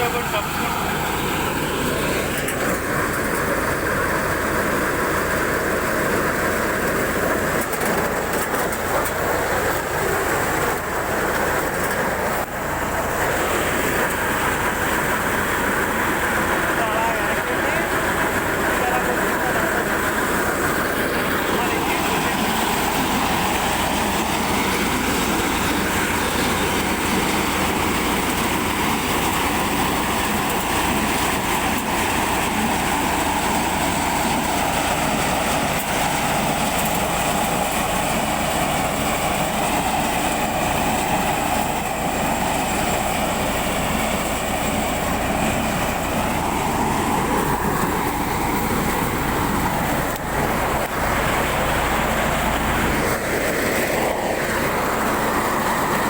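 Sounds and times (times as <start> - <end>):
corn harvester running: 0.0 - 56.0.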